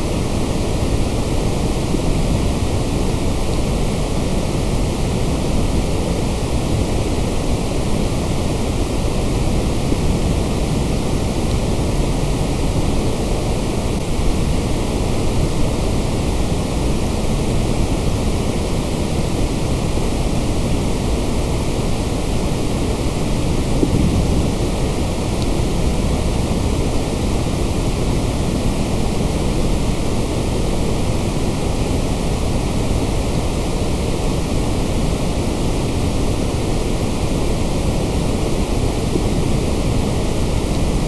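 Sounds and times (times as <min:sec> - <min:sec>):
white noise hiss: 0:00.0 - 0:41.0.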